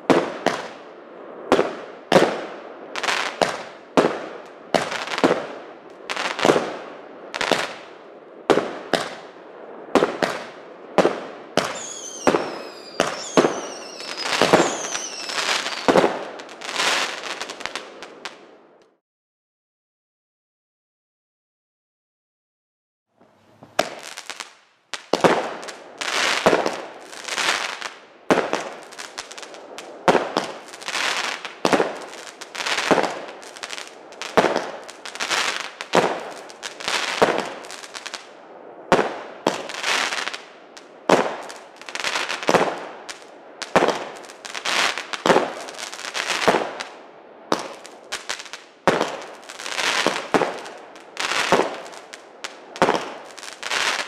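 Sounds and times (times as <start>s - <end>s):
firework cracks with crackling tail: 0.0s - 19.0s, 23.6s - 54.0s.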